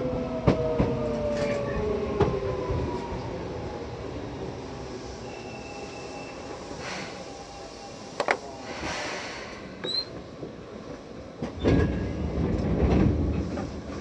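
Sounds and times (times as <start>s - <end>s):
train car background noise: 0.0s - 14.0s
train low rumble: 0.0s - 14.0s.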